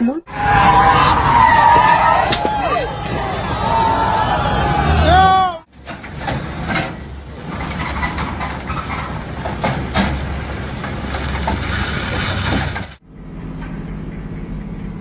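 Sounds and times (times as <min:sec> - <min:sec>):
road rumble: 0:00.2 - 0:15.0.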